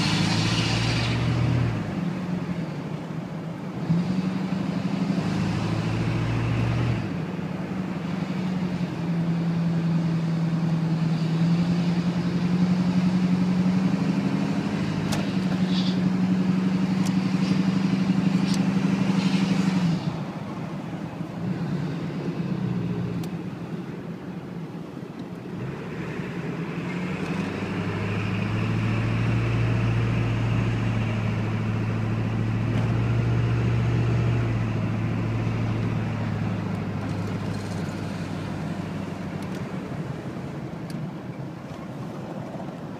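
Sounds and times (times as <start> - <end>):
diesel engine running: 0.0 - 42.8.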